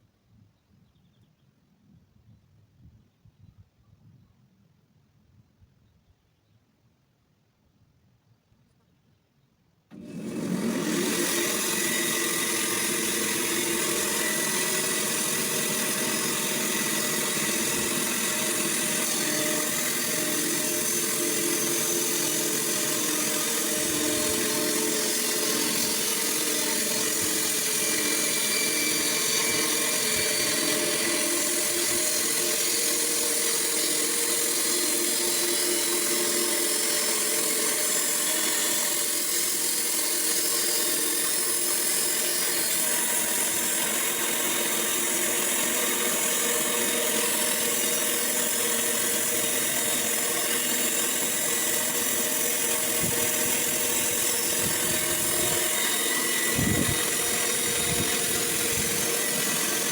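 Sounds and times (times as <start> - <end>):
sawmill sawing a log: 9.9 - 59.9.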